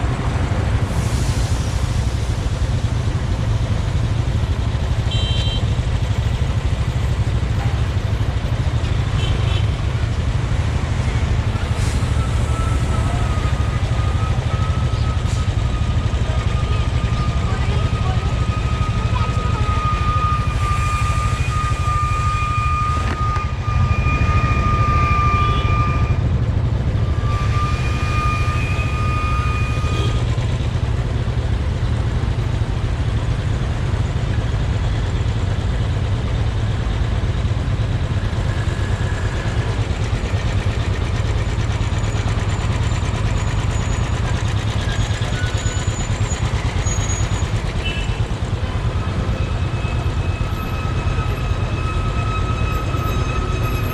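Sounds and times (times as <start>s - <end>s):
motorcycle running: 2.0s - 53.9s.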